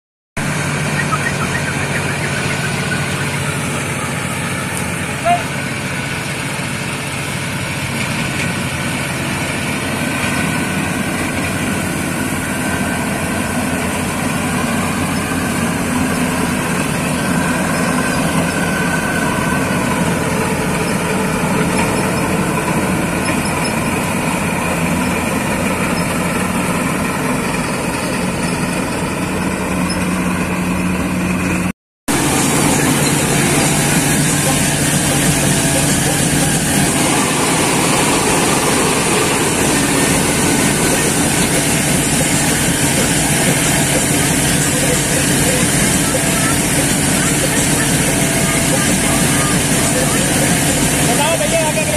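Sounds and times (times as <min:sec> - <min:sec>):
combine harvester droning: 0:00.4 - 0:51.9.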